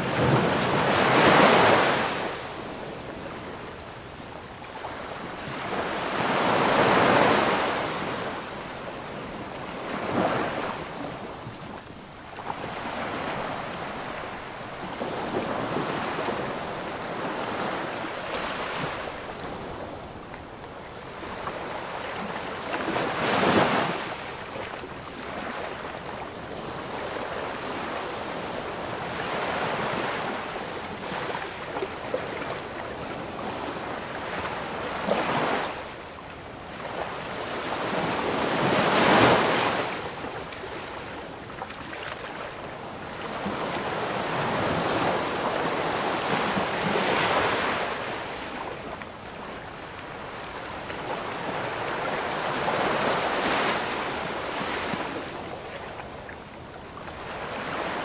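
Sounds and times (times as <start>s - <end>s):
ocean waves breaking: 4.8s - 36.0s, 36.8s - 58.0s.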